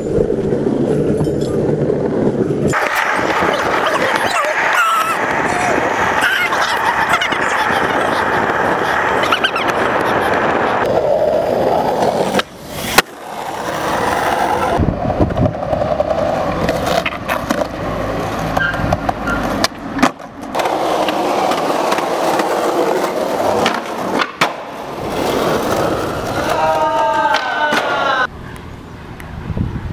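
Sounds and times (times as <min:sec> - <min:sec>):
skateboard wheels rolling: 0:00.0 - 0:28.3.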